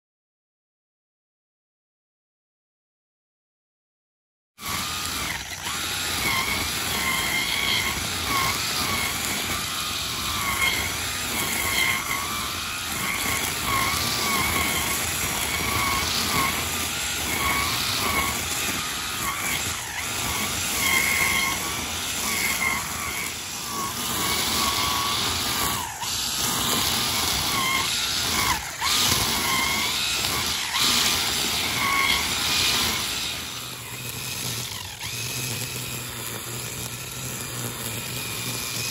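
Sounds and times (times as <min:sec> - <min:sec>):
brush cutter motor whining: 0:04.6 - 0:38.9.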